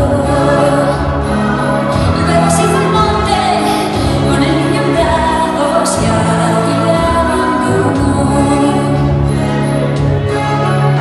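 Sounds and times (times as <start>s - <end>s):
music with singing voices: 0.0s - 11.0s.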